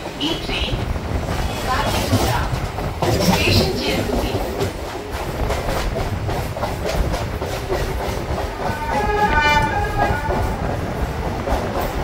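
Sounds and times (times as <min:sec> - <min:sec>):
train wheels clattering over rails: 0:00.0 - 0:12.0.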